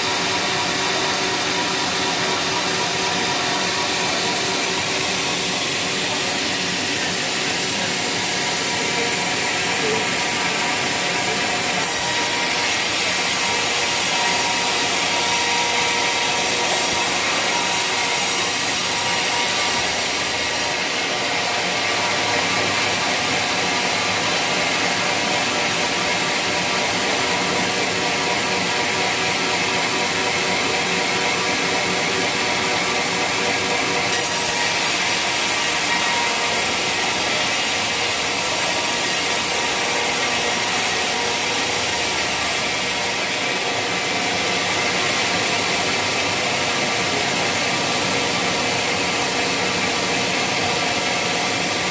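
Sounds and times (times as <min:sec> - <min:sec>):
saw blade cutting wood: 0:00.0 - 0:51.9.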